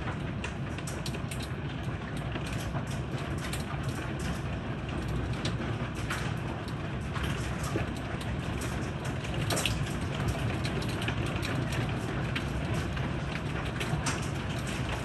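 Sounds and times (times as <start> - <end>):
hailstones ticking: 0.0 - 15.0.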